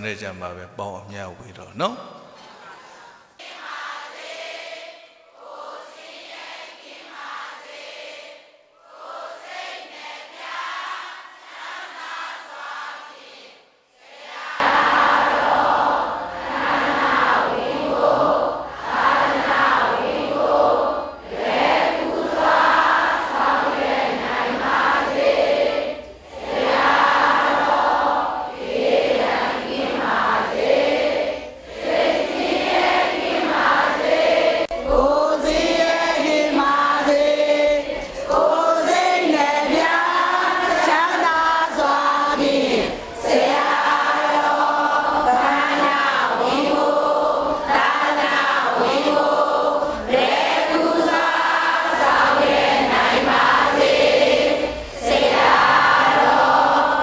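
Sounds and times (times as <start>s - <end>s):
group singing devotional song: 2.4s - 57.0s.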